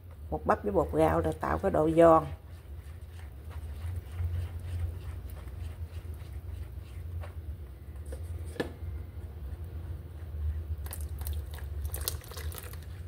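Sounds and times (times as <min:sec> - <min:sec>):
steady low hum: 0:00.0 - 0:11.9
whisk stirring batter in glass bowl: 0:00.5 - 0:08.5, 0:09.2 - 0:13.0.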